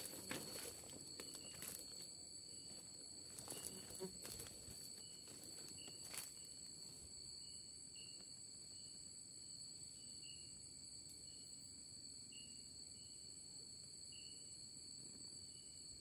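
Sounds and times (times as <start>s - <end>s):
insect chirps: 0.0s - 16.0s
night insects droning: 0.0s - 16.0s.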